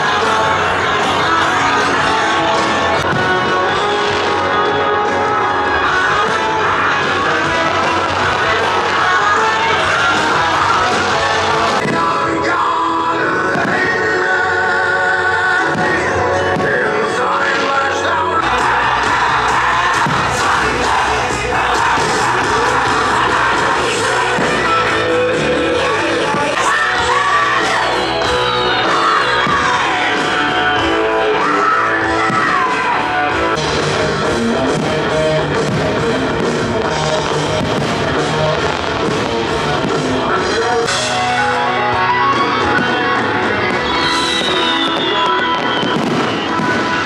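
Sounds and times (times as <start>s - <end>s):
electric guitar: 0.0s - 47.0s
person singing: 0.0s - 47.0s.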